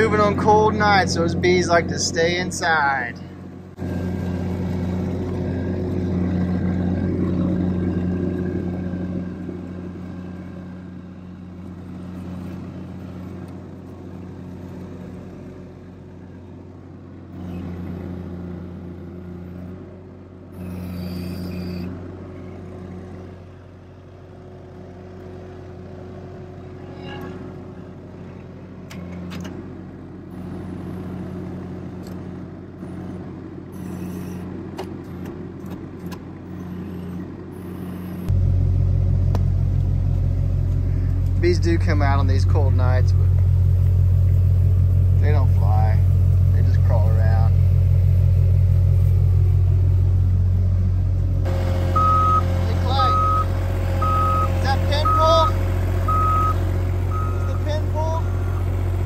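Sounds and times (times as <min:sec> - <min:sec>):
loader diesel engine running: 0:00.0 - 0:59.0.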